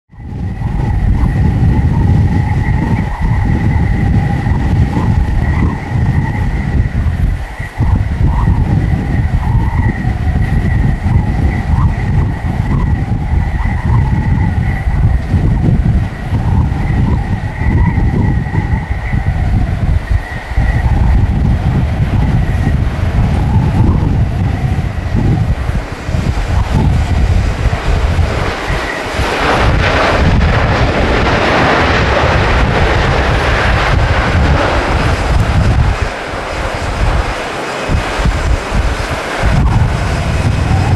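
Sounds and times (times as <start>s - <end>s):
gusty wind on microphone: 0.0s - 40.9s
jet engines whining: 0.1s - 40.9s.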